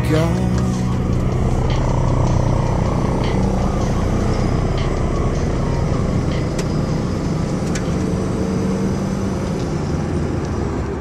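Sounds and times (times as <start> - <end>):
car engine running: 0.0 - 11.0
road noise: 0.0 - 11.0.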